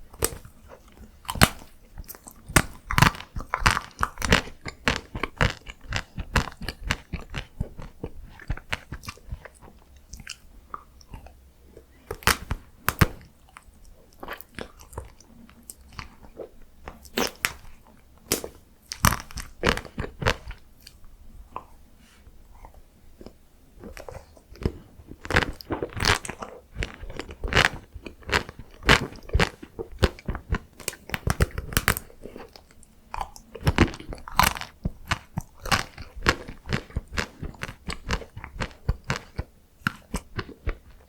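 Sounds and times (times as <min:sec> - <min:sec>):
crunchy ice cream chewing: 0:00.0 - 0:21.8, 0:22.5 - 0:41.0.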